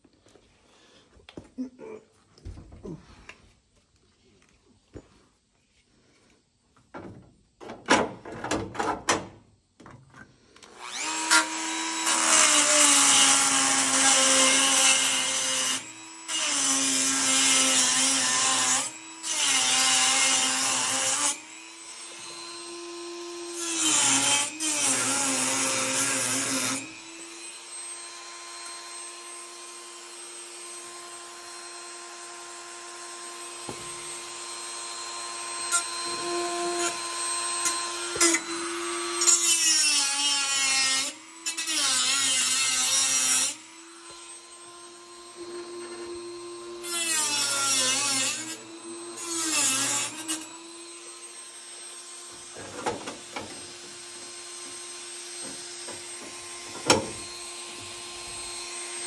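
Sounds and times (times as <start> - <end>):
angle grinder grinding steel: 10.6 - 59.0.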